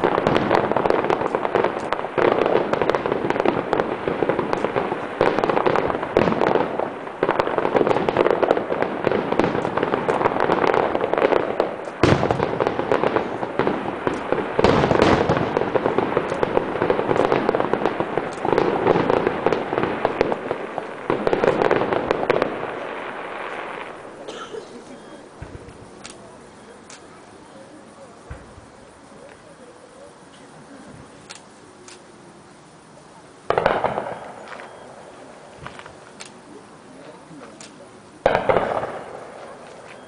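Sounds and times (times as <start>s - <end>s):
fireworks bangs: 0.0s - 32.2s, 32.8s - 40.0s
fireworks crackling and popping: 0.0s - 40.0s.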